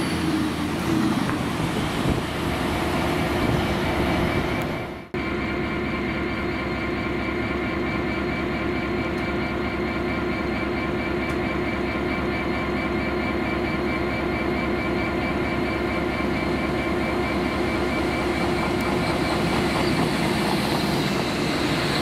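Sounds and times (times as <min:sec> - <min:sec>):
traction whine: 0:00.0 - 0:22.0
train electric hum: 0:00.0 - 0:22.0.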